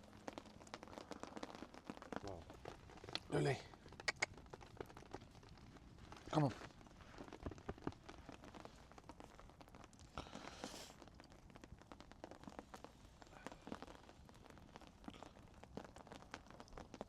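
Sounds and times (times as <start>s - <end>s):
rain dripping: 0.0s - 17.0s.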